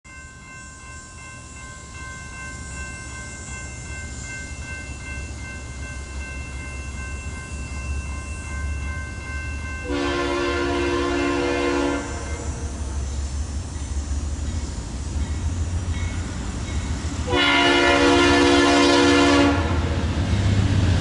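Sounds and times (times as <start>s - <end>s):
freight train rumble: 0.1s - 21.0s.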